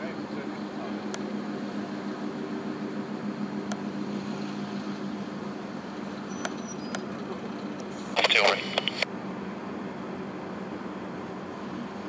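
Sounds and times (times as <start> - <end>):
low drone of ship engines: 0.0 - 12.0.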